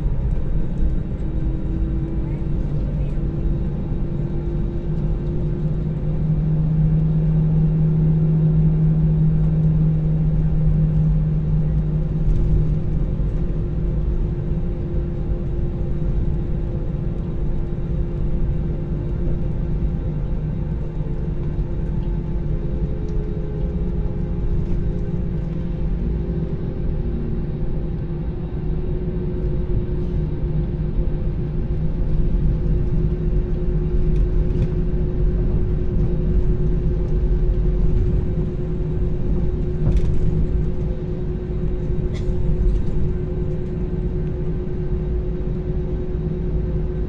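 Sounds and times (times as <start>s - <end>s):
jet engines droning in cabin: 0.0s - 47.0s.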